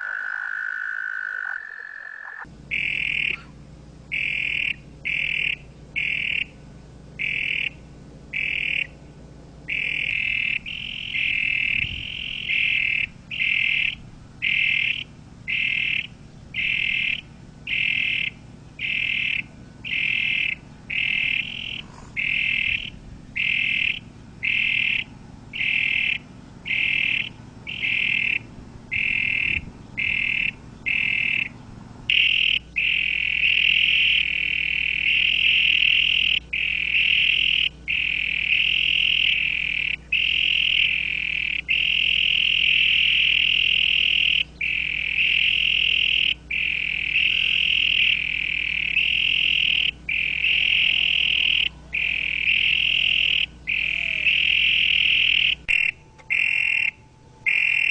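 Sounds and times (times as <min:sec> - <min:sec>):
toad trilling call: 0:00.0 - 0:06.6, 0:07.2 - 0:09.0, 0:09.7 - 0:57.9.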